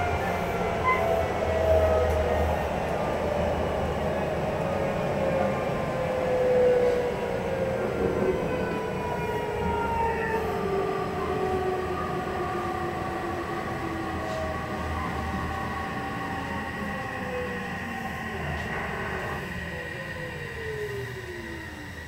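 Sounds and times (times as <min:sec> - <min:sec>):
train motor whine: 0:00.0 - 0:22.0
train wheels rumbling: 0:00.0 - 0:22.0.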